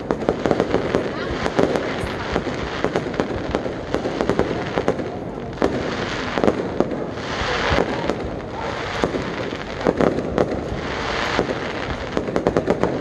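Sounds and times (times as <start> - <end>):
continuous hiss: 0.0 - 13.0
fireworks bursting with sharp bangs: 0.0 - 13.0.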